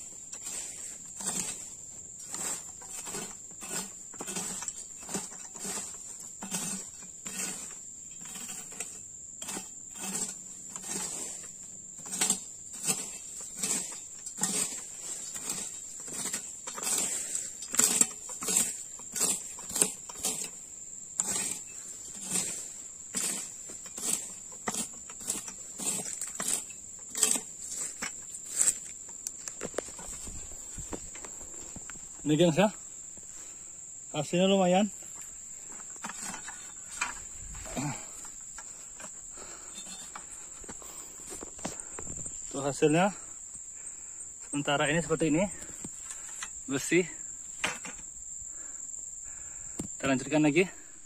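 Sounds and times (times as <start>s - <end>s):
weeding tool scraping and chopping: 0.0s - 48.8s, 49.5s - 51.0s
insect drone: 0.0s - 51.0s.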